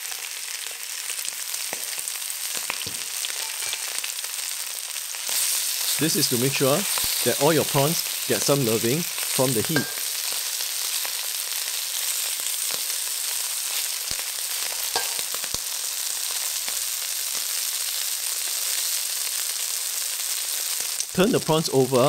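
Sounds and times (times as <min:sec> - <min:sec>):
prawns sizzling in hot oil: 0:00.0 - 0:22.0.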